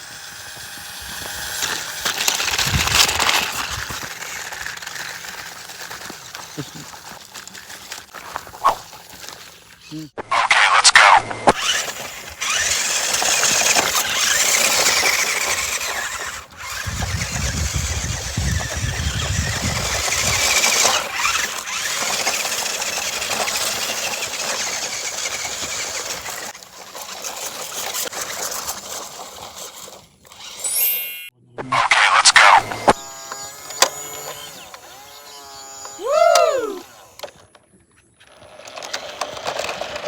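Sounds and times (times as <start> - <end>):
toy car electric motor whining: 0.0 - 40.0.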